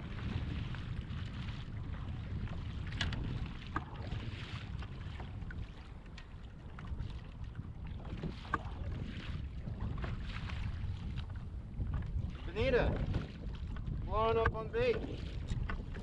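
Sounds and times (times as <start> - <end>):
water slapping kayak hull: 0.0 - 16.0
wind noise on microphone: 0.0 - 16.0.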